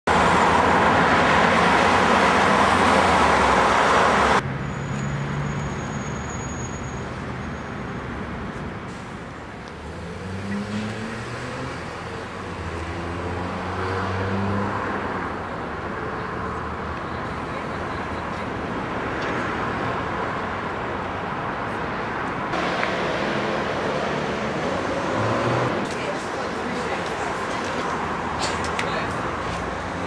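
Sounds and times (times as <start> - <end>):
road and wind noise: 0.1 - 30.0.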